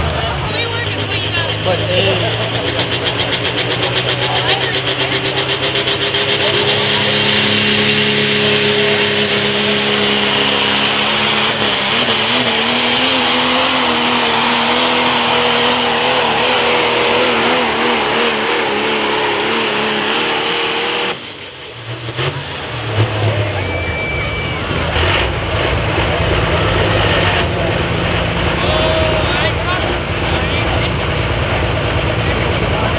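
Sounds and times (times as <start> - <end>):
diesel truck engine at full power: 0.0 - 32.9.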